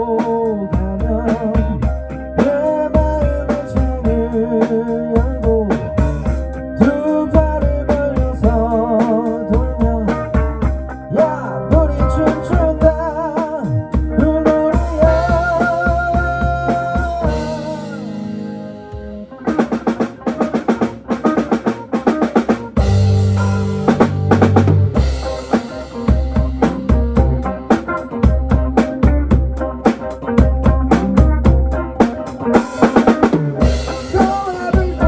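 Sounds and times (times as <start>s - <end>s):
song with wavering melody: 0.0s - 20.0s, 22.8s - 35.0s
drum kit: 0.0s - 35.0s.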